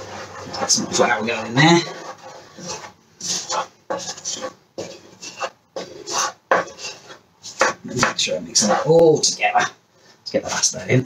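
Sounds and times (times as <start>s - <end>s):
spoon scraping a bowl: 0.0s - 9.4s.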